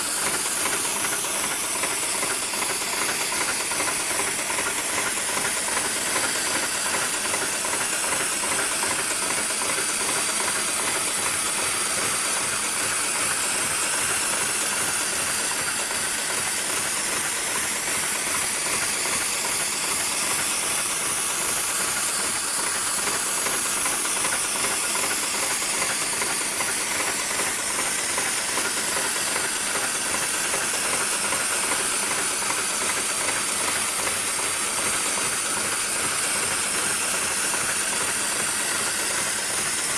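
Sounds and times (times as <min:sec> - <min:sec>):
industrial sewing machine running: 0:00.0 - 0:39.9.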